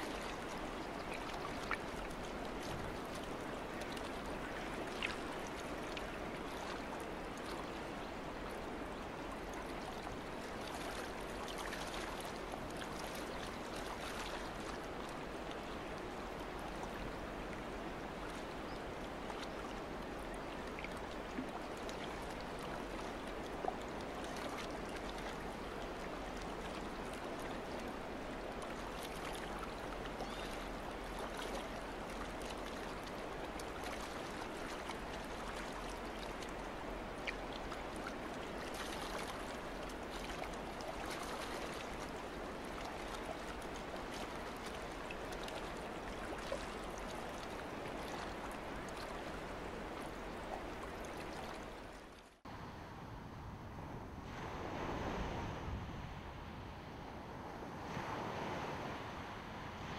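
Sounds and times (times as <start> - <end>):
sea water lapping: 0.0 - 52.4
small water splashes: 0.0 - 52.4.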